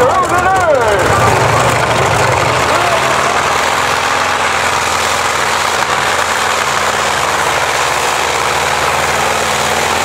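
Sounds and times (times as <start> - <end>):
radial aircraft engine running: 0.0 - 10.0.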